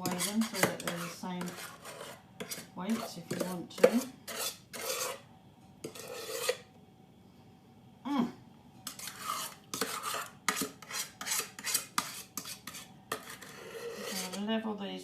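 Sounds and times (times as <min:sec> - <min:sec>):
utensil scraping bowl: 0:00.0 - 0:06.7, 0:08.8 - 0:14.6.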